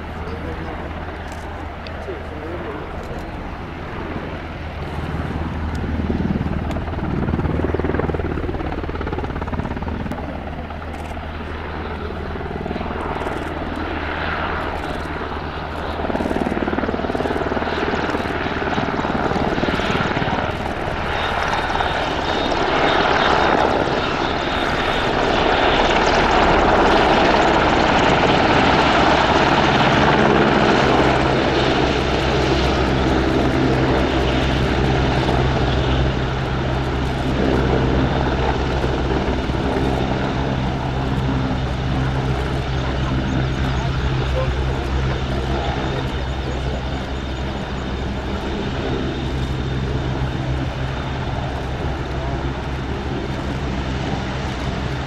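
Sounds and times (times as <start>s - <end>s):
helicopter rotor and engines: 0.0s - 55.0s.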